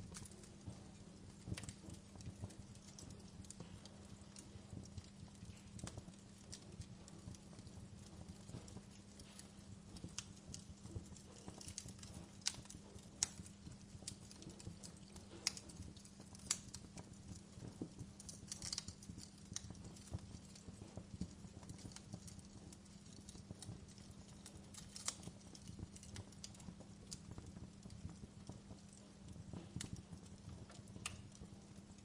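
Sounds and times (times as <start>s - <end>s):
fire crackling and popping: 0.0s - 32.0s
low fire rumble: 0.0s - 32.0s.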